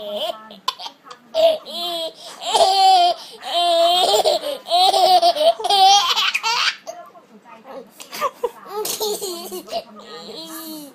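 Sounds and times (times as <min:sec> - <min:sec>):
toddler laughing: 0:00.0 - 0:06.8, 0:08.7 - 0:10.9.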